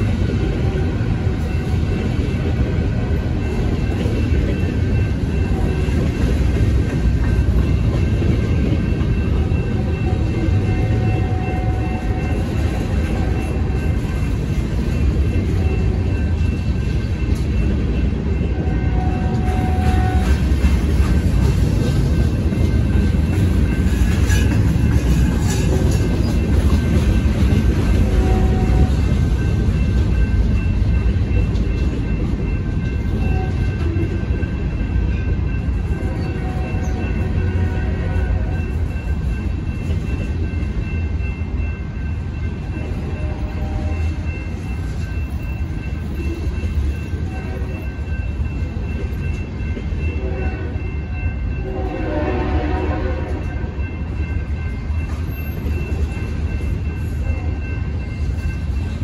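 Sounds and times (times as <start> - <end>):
crossing warning bell ringing: 0.0 - 59.0
freight train wheels rumbling: 0.0 - 59.0.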